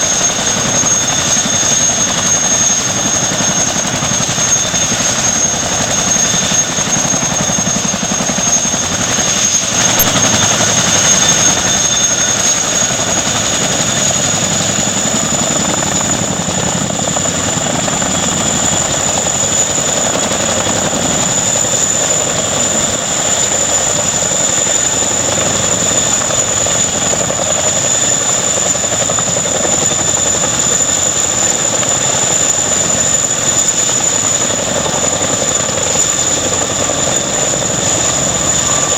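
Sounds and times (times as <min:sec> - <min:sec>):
helicopter rotor and engine noise: 0:00.0 - 0:38.9
helicopter turbine whine: 0:00.0 - 0:38.9.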